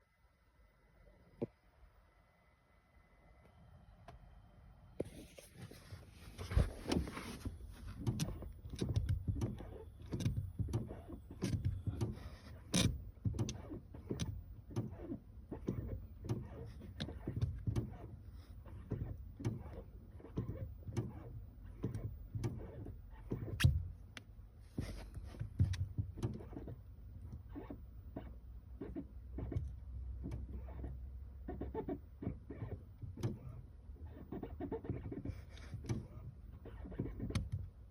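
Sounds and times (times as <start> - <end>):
brake pedal clicks and thuds: 5.0 - 37.9.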